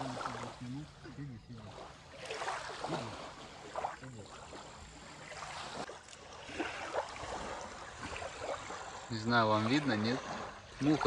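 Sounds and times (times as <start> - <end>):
river water lapping at shore: 0.0 - 11.0.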